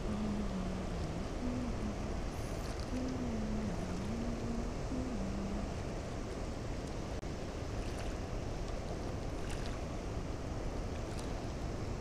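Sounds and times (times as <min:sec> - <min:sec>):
fast river current rushing: 0:00.0 - 0:12.0
wind on microphone: 0:00.0 - 0:12.0.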